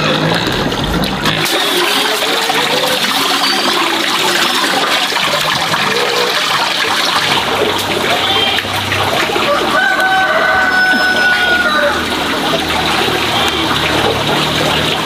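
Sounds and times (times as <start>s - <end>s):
water pouring into a plastic basin: 0.0s - 15.0s.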